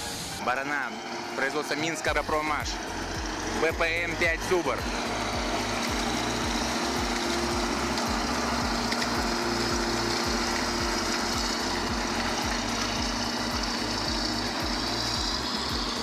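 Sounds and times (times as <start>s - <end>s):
background music with beat: 0.0s - 16.0s
tractor engine running: 0.0s - 16.0s.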